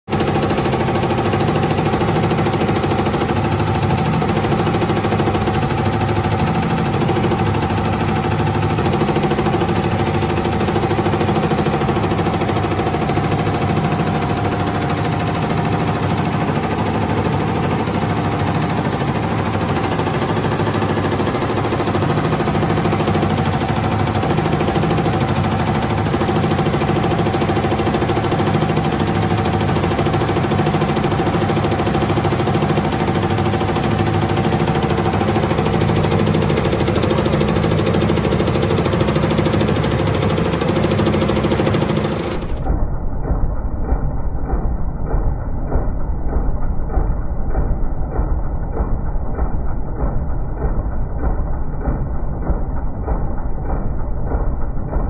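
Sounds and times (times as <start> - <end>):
embroidery machines clattering: 0.1 - 55.0.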